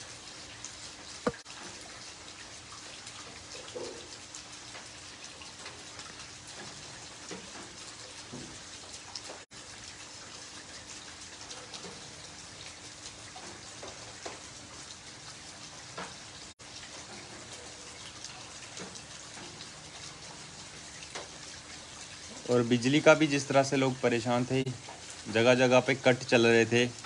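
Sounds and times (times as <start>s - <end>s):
heavy rain on concrete and puddles: 0.0s - 27.0s.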